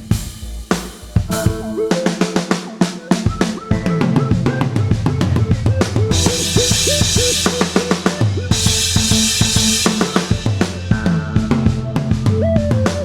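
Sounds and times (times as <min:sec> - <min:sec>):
electronic music with drum beat: 0:00.0 - 0:13.0.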